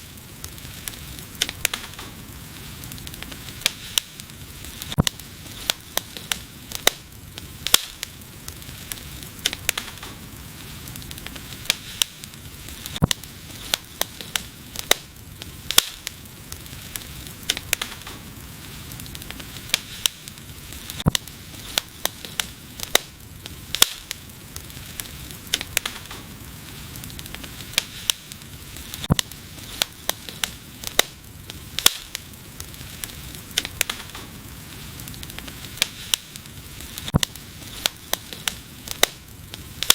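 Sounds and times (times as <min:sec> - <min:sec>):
hiss of burning: 0:00.0 - 0:39.9
wood fire crackling: 0:00.0 - 0:39.9.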